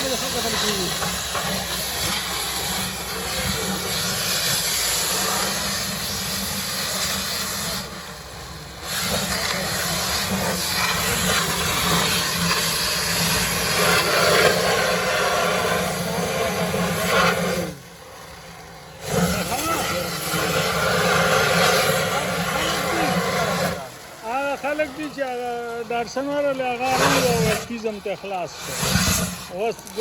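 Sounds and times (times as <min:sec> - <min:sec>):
machinery hiss and hum: 0:00.0 - 0:30.0.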